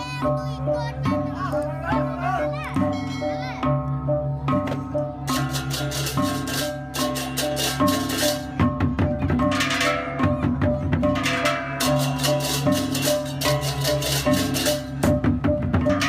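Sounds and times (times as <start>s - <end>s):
drumming: 0.0s - 16.0s
gong and metallophone tones: 0.0s - 16.0s.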